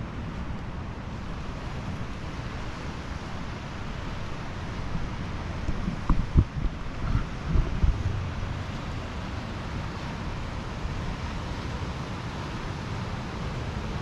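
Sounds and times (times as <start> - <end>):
wind buffeting microphone: 0.0 - 11.3
surf washing on beach: 0.0 - 14.0.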